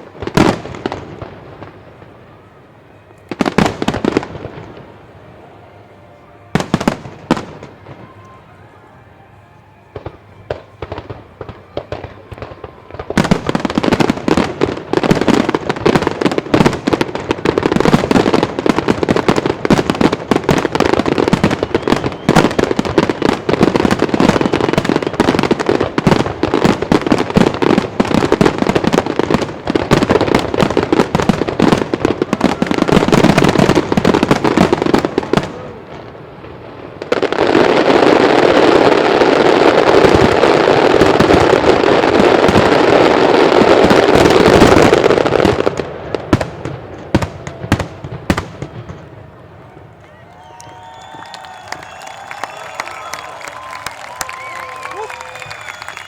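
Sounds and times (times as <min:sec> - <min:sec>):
fireworks bangs and crackling: 0:00.0 - 0:05.7, 0:06.4 - 0:56.0.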